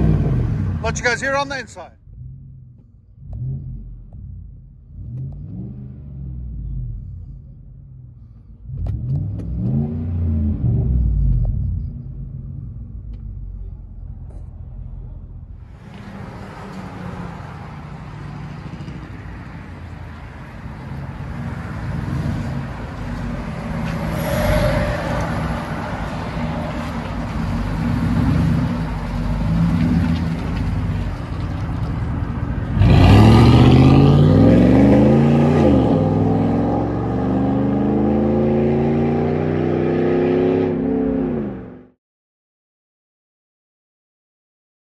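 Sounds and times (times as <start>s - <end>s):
truck engine revving: 0.0s - 19.5s, 21.4s - 41.9s.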